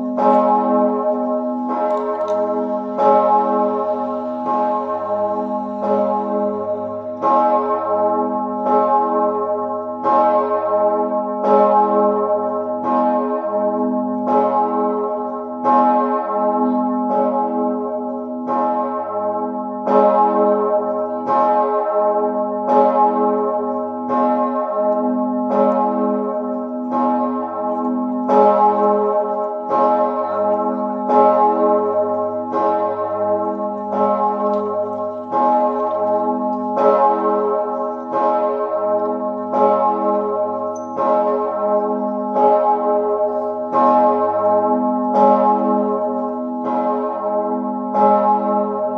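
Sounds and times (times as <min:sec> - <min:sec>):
large church bell ringing: 0:00.0 - 0:48.9.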